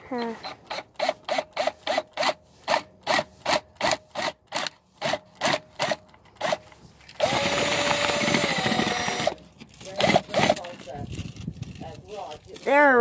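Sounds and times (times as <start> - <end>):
power drill boring into gourd: 0.2 - 10.8.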